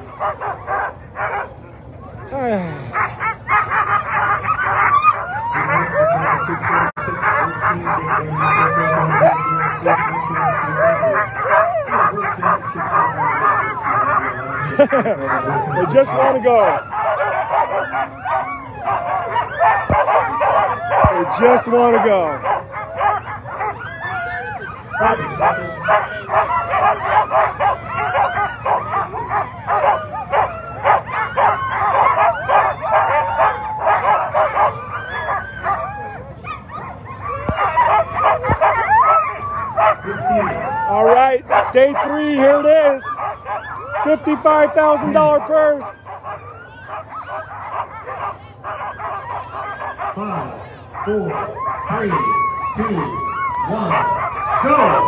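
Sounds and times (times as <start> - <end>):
sled dogs barking and yipping: 0.0 - 55.0.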